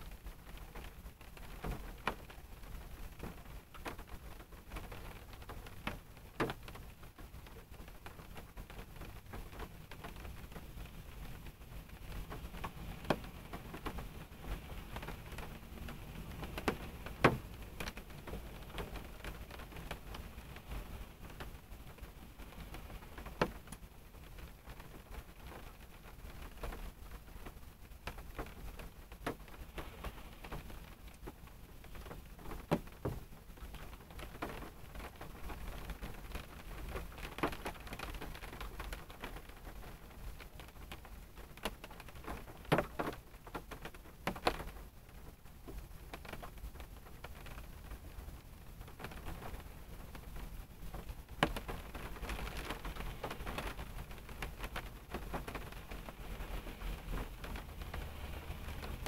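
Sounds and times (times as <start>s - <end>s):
rain on a car roof: 0.0s - 59.0s.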